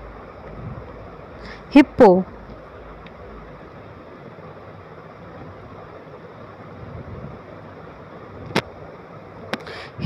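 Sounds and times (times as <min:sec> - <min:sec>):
low background hiss: 0:00.0 - 0:10.0.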